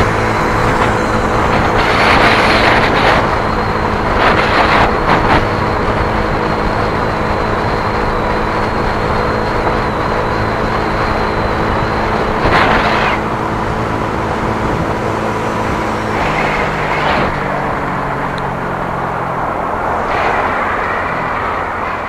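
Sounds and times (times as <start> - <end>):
tyre and wind noise: 0.0 - 22.0
vehicle engine hum: 0.0 - 22.0.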